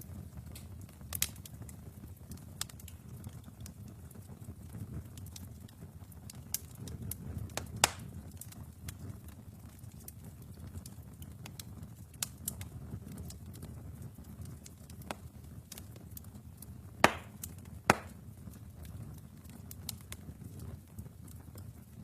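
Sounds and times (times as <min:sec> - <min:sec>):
loud fire pops: 0:00.0 - 0:22.0
low rumble of flames: 0:00.0 - 0:22.0
wood fire crackling: 0:00.0 - 0:22.0.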